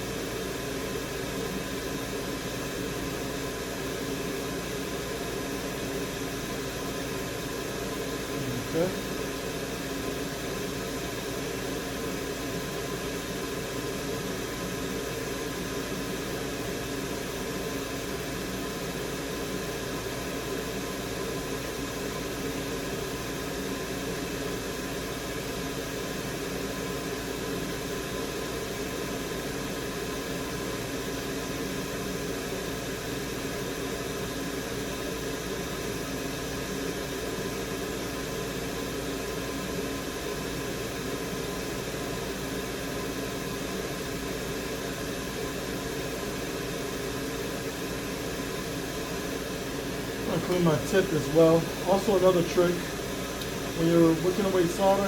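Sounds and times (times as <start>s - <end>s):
electric fan whirring: 0.0s - 55.0s.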